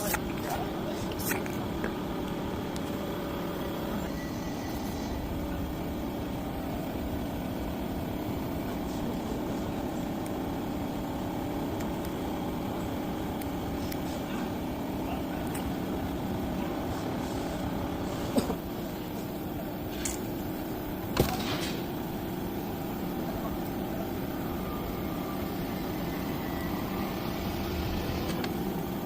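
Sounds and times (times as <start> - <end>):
low mechanical rumble: 0.0 - 29.0.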